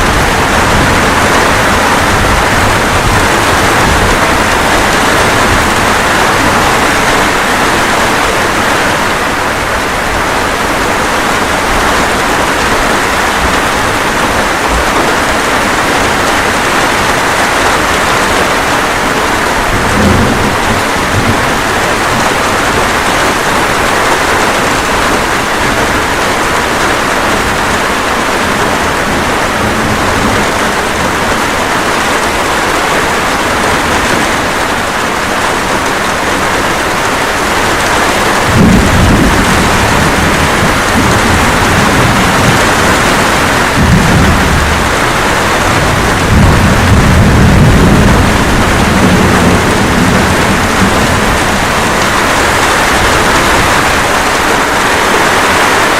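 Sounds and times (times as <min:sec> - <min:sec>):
steady rain: 0:00.0 - 0:55.9
thunder rumbling: 0:00.0 - 0:55.9.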